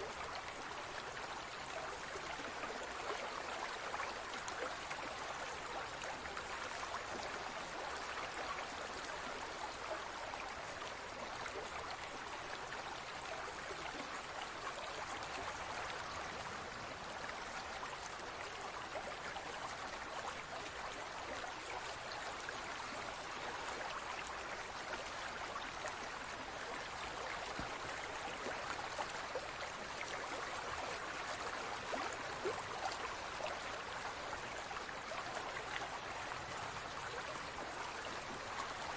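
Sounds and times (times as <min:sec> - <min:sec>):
water trickling and splashing: 0:00.0 - 0:38.9
water dripping and bubbling: 0:00.1 - 0:38.9.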